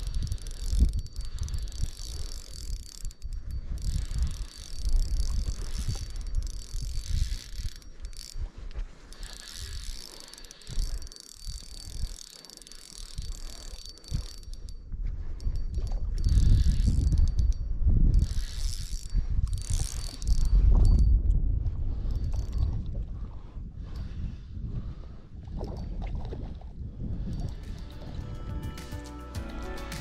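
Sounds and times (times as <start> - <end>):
fishing reel clicking and whirring: 0.0 - 22.8, 27.2 - 30.0.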